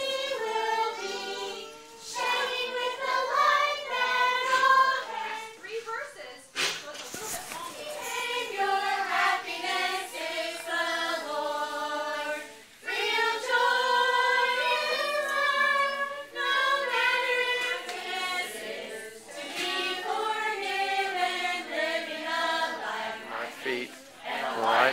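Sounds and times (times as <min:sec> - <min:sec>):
group singing: 0:00.0 - 0:05.7, 0:07.2 - 0:24.9.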